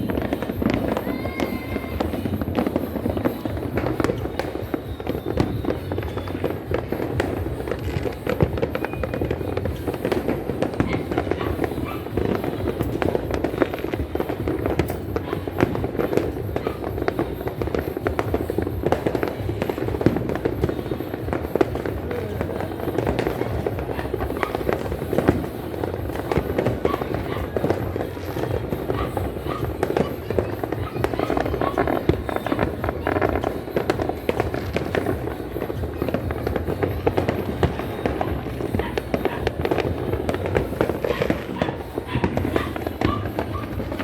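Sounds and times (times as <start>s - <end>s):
firecrackers crackling and banging: 0.0s - 44.0s.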